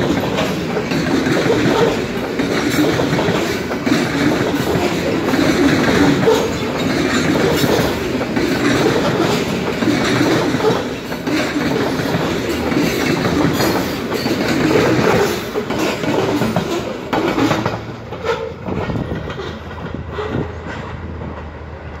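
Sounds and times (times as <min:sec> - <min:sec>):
train wheels clacking over rail joints: 0:00.0 - 0:22.0.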